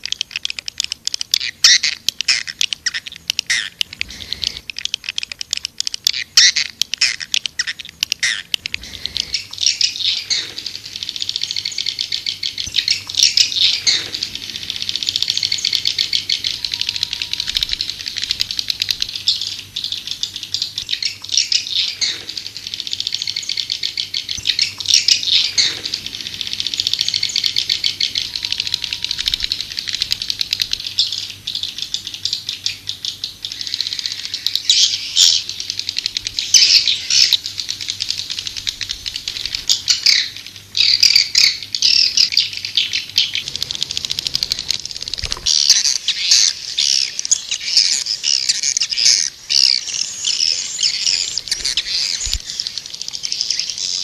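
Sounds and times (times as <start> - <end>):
faint low hum: 0.0 - 54.0
swiftlet calls chittering: 0.0 - 54.0.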